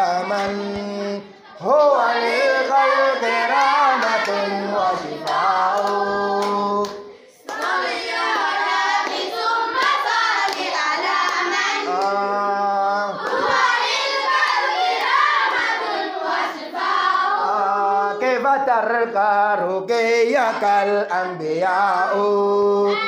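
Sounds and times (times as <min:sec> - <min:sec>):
group singing unaccompanied: 0:00.0 - 0:23.0.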